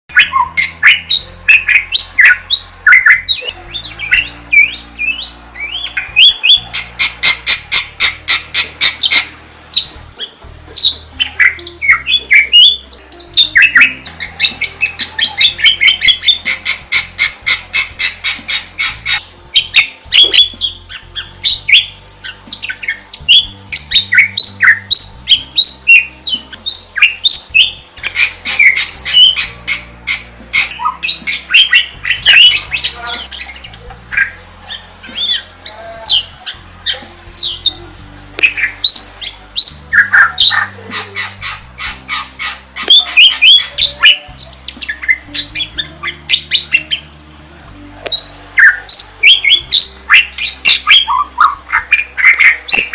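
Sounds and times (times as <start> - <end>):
bird singing: 0.1 - 52.9.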